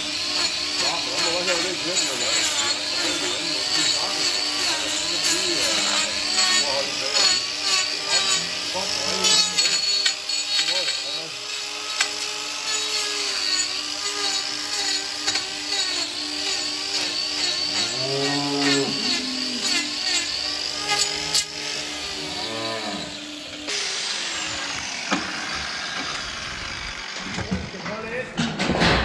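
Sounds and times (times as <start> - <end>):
power grinder whining on hoof: 0.0 - 28.4.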